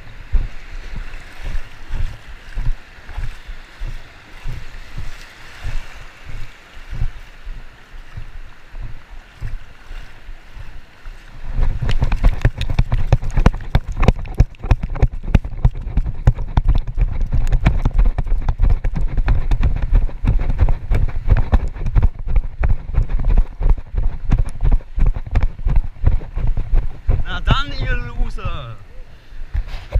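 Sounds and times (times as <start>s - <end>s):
rapid footfalls on wet sand: 0.0s - 28.6s
splashing steps in shallow surf: 0.0s - 28.7s
wind buffeting microphone: 0.0s - 28.8s.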